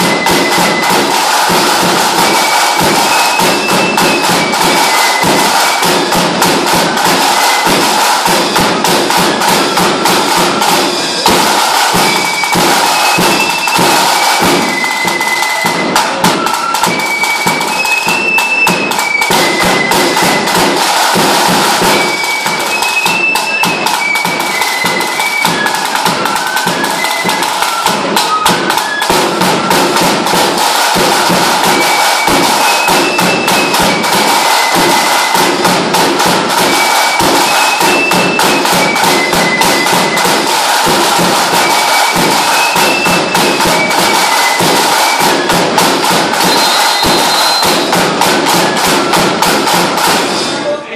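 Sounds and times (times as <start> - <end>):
drums beaten in rapid roll: 0.0 - 50.7
fife playing high tune: 0.0 - 50.9.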